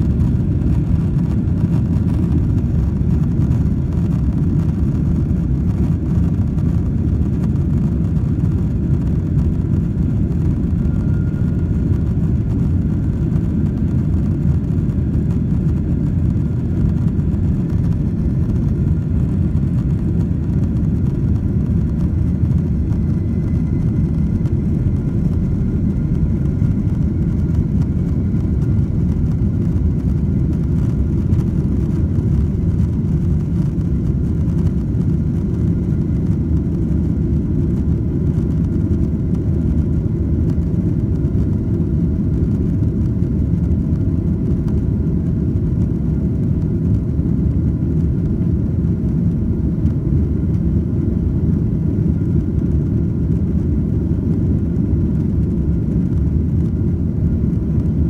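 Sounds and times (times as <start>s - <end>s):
faint whine tones: 0.0s - 58.0s
jet engine roar in cabin: 0.0s - 58.0s.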